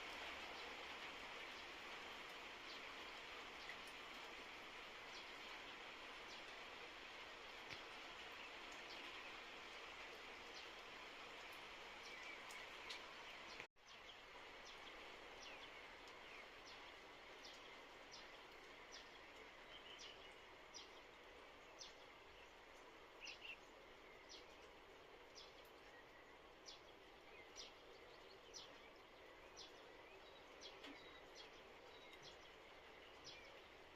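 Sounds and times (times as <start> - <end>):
low outdoor hiss: 0.0 - 33.9.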